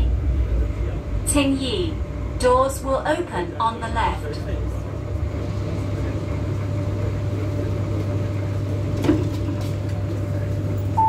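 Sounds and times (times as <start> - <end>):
train rumble from inside car: 0.0 - 11.0.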